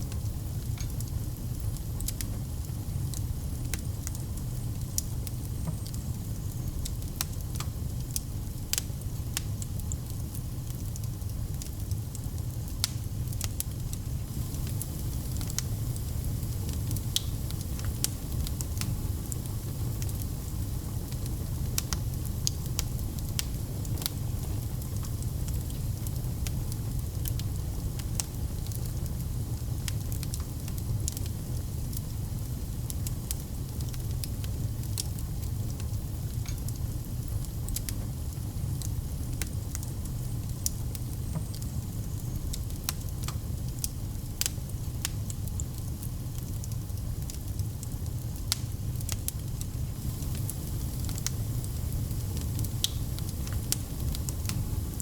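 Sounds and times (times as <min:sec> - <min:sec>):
fire crackling and popping: 0:00.0 - 0:55.0
fire rumbling in fireplace: 0:00.0 - 0:55.0.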